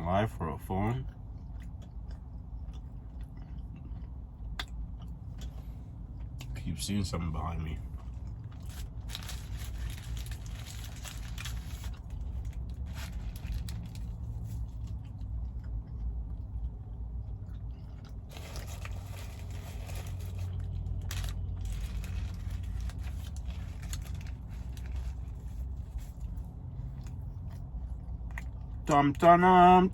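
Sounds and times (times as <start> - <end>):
steady low hum: 0.0 - 29.9
chewing and biting food: 1.0 - 6.7, 7.8 - 28.9.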